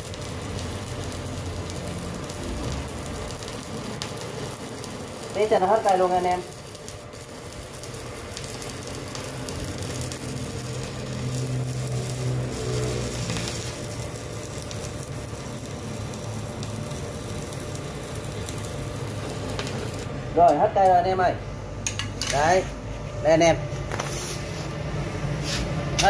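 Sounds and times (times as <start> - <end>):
stick welding arc burning: 0.0 - 26.0.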